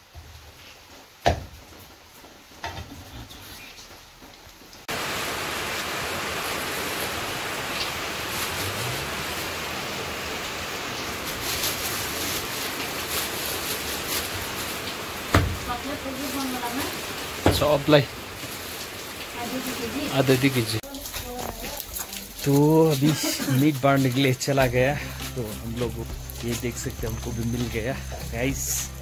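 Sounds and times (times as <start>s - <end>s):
heavy rain hissing: 4.8s - 29.0s.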